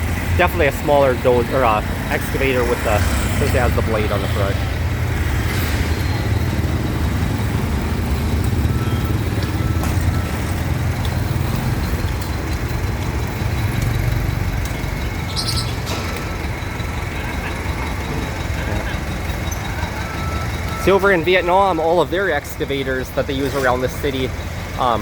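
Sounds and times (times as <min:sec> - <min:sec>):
city street traffic: 0:00.0 - 0:25.0
heavy vehicle engine idling: 0:00.0 - 0:25.0.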